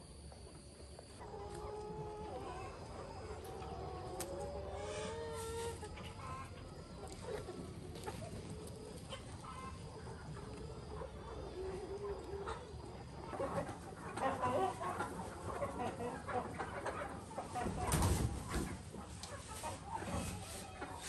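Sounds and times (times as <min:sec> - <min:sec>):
chickens clucking: 0:00.1 - 0:21.0.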